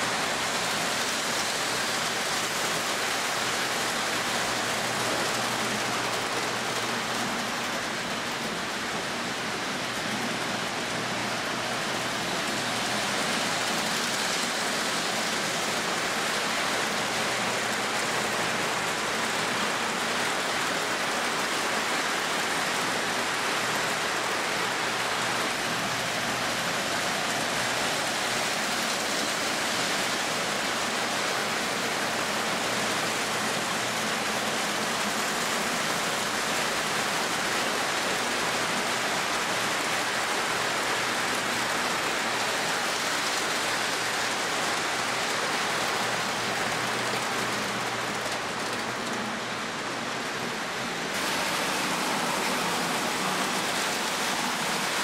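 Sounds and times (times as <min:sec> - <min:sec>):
model train wheels clattering: 0:00.0 - 0:55.0.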